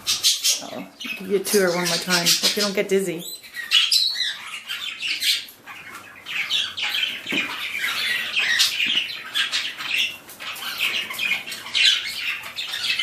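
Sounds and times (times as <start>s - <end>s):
parrots chattering and squawking: 0.0s - 13.0s.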